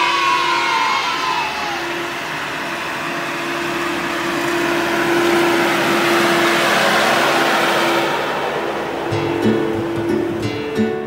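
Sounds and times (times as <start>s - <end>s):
diesel engine whining: 0.0s - 11.0s.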